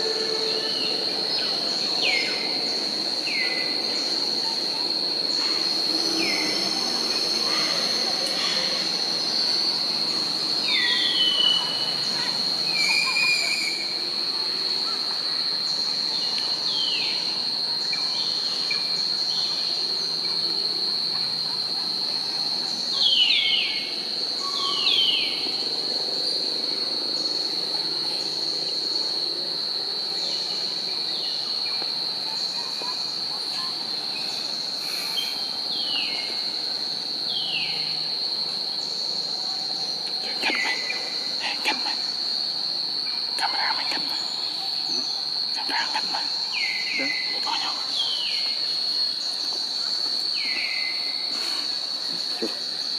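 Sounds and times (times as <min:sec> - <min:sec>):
insects droning: 0:00.0 - 0:52.9.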